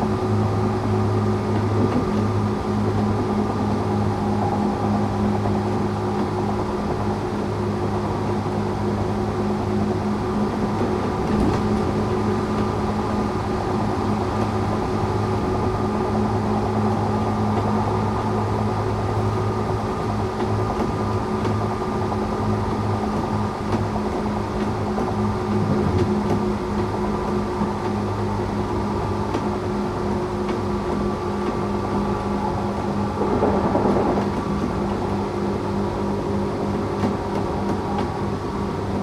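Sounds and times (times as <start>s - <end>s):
train wheels rolling on rails: 0.1s - 39.0s.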